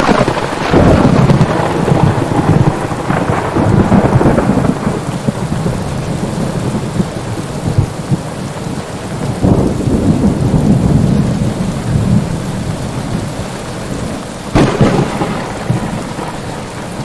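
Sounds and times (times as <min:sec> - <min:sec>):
rolling thunder: 0:00.0 - 0:17.0
steady rain: 0:00.0 - 0:17.0.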